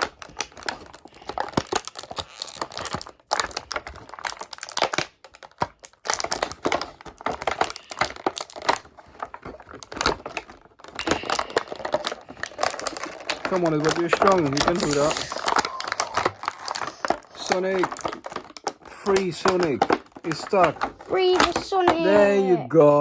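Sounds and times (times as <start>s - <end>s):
packaging crinkling: 0.0s - 22.4s.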